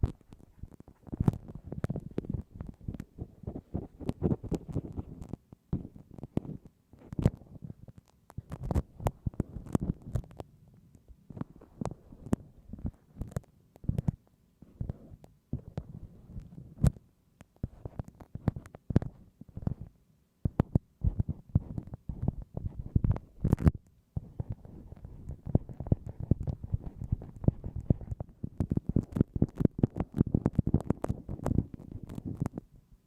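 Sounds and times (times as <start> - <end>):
ear pick scraping microphone: 0.0 - 17.0, 17.6 - 32.7.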